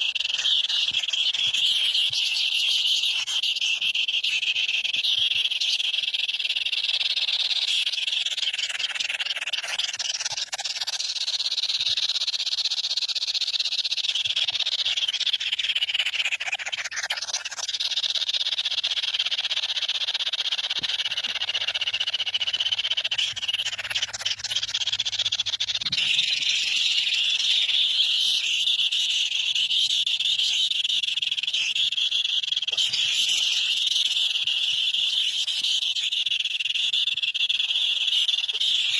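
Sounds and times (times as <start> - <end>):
shrill trilling animal calls: 0.0 - 12.0, 13.1 - 38.9.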